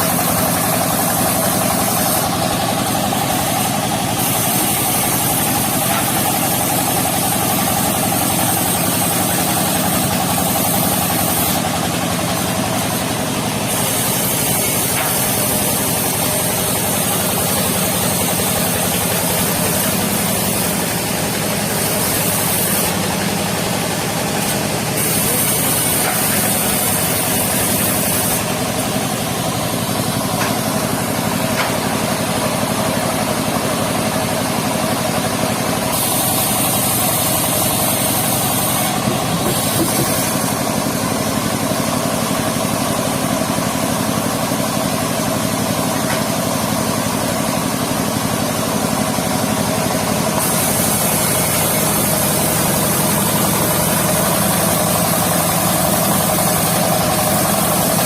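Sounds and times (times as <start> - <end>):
sawmill engine drone: 0.0 - 58.0.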